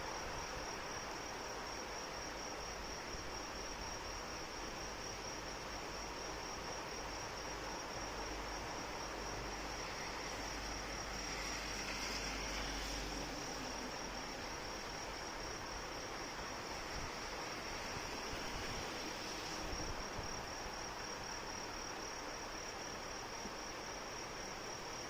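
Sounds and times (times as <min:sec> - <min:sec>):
steady rain falling: 0:00.0 - 0:24.8
insect trill: 0:00.0 - 0:25.0.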